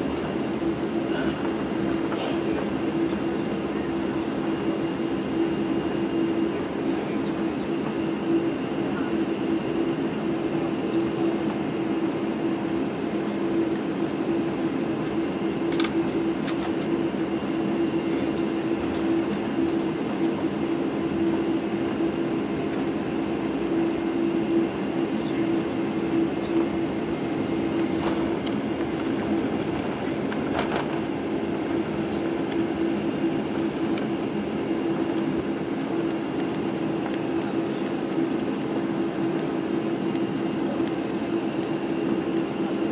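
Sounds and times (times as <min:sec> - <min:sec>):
jet engines humming in cabin: 0:00.0 - 0:42.9.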